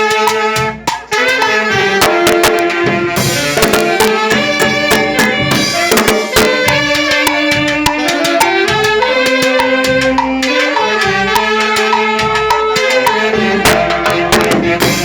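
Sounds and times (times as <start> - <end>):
brass horns playing: 0.0 - 15.0
drums and cymbals: 0.0 - 15.0.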